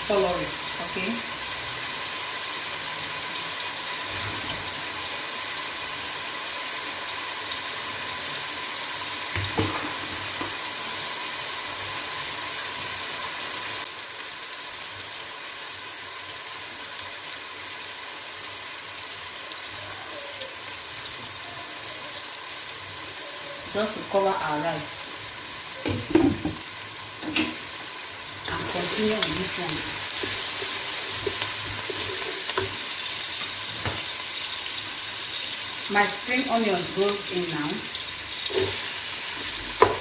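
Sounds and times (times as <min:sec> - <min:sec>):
onions sizzling in hot oil: 0:00.0 - 0:40.0
water boiling in a pot: 0:00.0 - 0:40.0.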